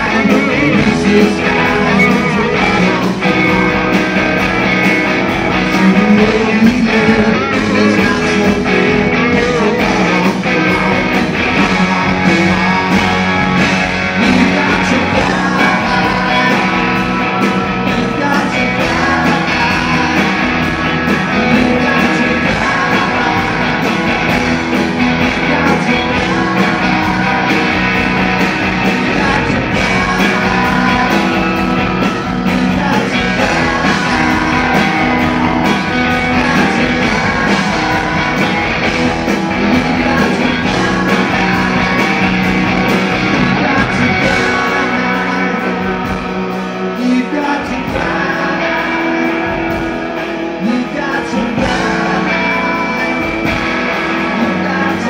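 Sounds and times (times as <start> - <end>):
drums: 0.0 - 55.0
electric guitars: 0.0 - 55.0
person singing lead vocal: 0.0 - 55.0.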